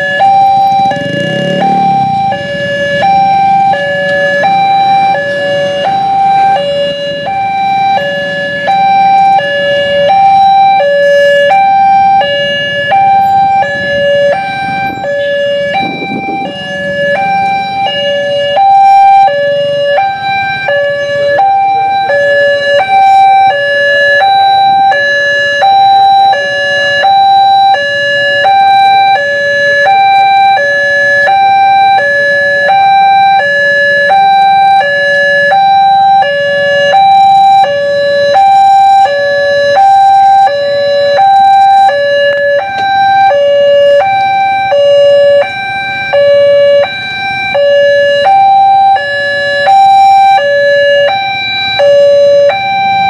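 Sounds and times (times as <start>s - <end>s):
two-tone level-crossing alarm: 0.0s - 53.0s.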